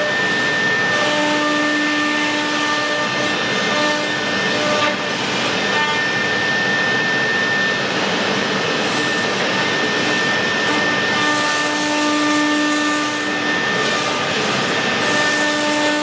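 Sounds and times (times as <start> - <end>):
cnc router spindle whine: 0.0 - 16.0.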